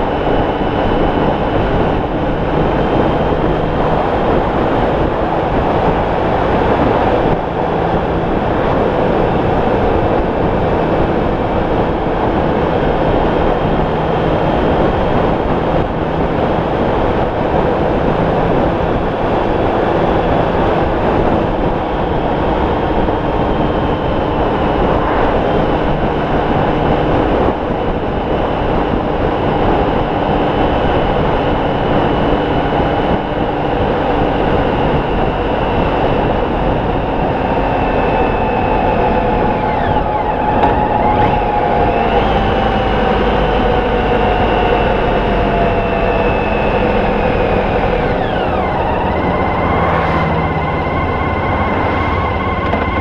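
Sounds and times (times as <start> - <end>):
motorcycle engine hum: 0.0 - 53.0
wind noise on microphone: 0.0 - 53.0.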